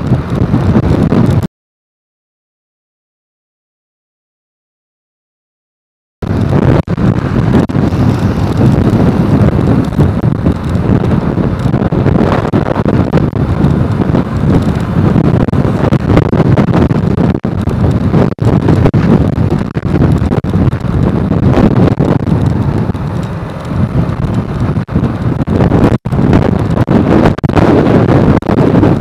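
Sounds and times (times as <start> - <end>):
road noise: 0.0 - 1.5, 6.2 - 29.0
wind buffeting microphone: 0.0 - 1.5, 6.2 - 29.0.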